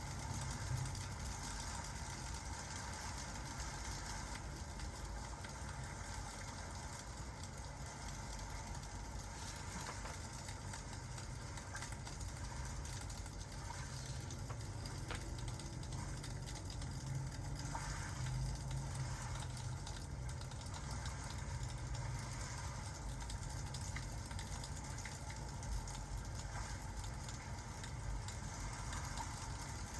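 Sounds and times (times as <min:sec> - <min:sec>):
fire crackling: 0:00.0 - 0:29.9
rain hissing: 0:00.0 - 0:29.9.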